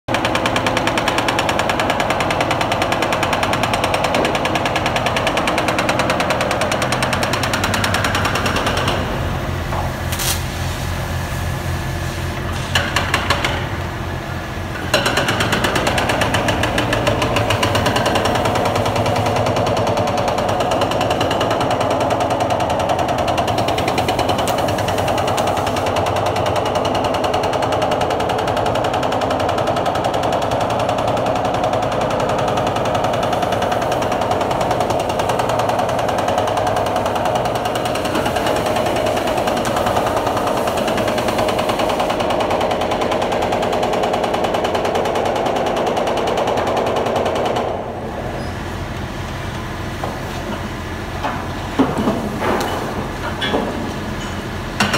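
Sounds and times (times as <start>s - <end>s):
concrete breaker hammering: 0.1s - 10.1s, 12.7s - 48.0s, 51.2s - 54.9s.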